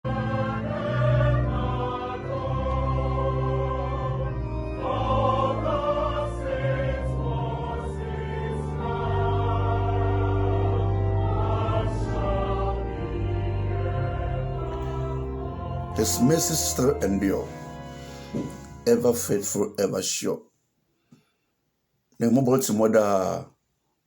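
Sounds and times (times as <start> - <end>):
choir singing a hymn: 0.0 - 19.6
bass accompaniment: 0.0 - 19.7.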